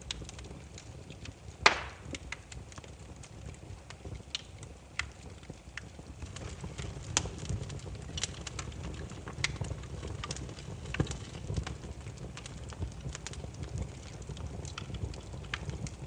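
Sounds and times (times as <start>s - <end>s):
firewood crackling and popping: 0.0s - 16.0s
low rumble of flames: 0.0s - 16.0s.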